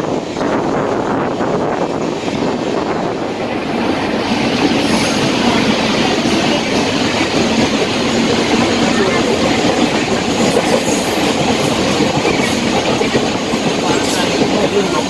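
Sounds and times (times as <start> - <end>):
passing train: 0.0 - 15.0
train wheels rattling on rails: 0.0 - 15.0.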